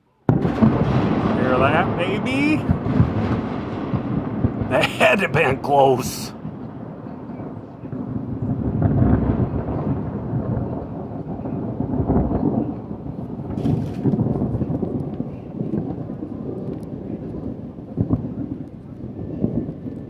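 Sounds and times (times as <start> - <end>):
thunder crack: 0.3 - 20.0
thunder rumbling: 0.3 - 20.0.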